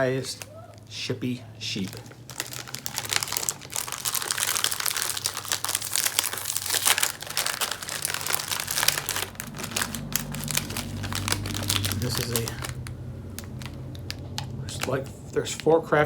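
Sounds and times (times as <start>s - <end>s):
plastic wrapper crinkling: 1.8s - 16.0s.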